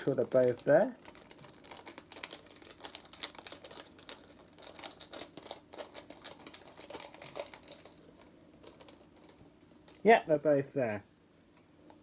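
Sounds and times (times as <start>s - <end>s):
crinkling and rustling sleeves: 0.0s - 10.1s.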